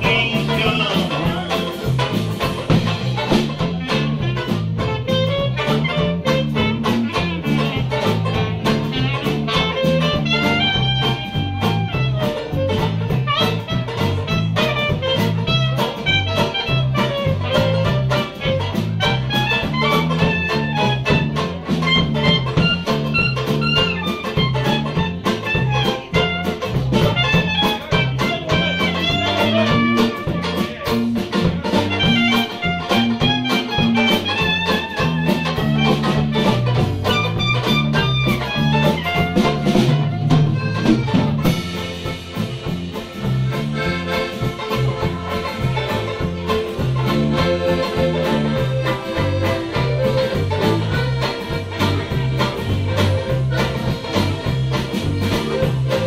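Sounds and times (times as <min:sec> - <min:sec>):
banjo: 0:00.0 - 0:56.0
bass line: 0:00.0 - 0:56.0
clarinet: 0:00.0 - 0:56.0
keyboard: 0:00.0 - 0:56.0
piano accordion: 0:00.6 - 0:56.0.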